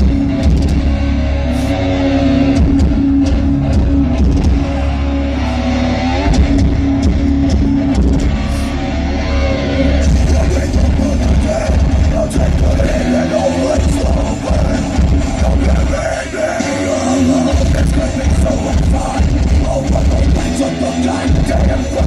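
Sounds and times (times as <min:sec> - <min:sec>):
pounding drum kit: 0:00.0 - 0:08.9, 0:09.9 - 0:22.0
distorted electric guitars and bass: 0:00.0 - 0:22.0.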